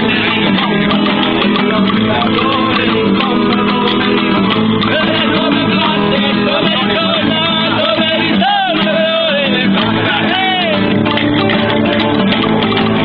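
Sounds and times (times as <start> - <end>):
person singing: 0.0 - 11.0
acoustic guitar: 0.0 - 13.0.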